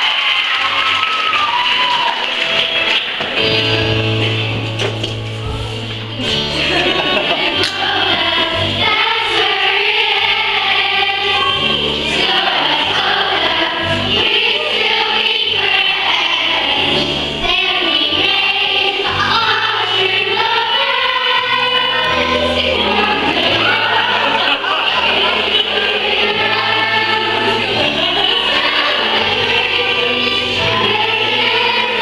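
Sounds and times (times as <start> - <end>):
accompanying music: 0.0 - 32.0
children singing in chorus: 6.2 - 32.0.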